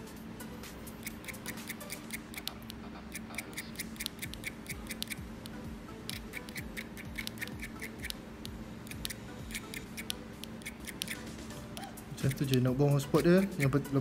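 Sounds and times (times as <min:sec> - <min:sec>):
ticking beat: 0:00.9 - 0:14.0.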